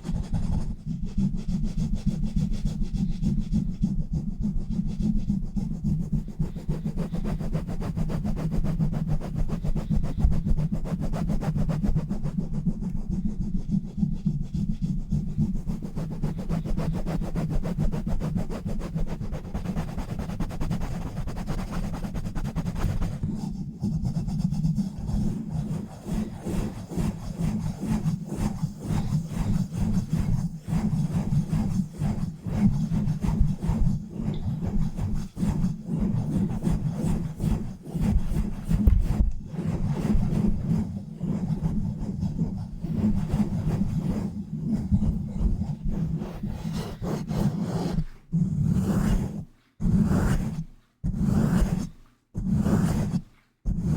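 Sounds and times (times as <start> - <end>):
rubbing on a microphone: 0.0 - 53.9.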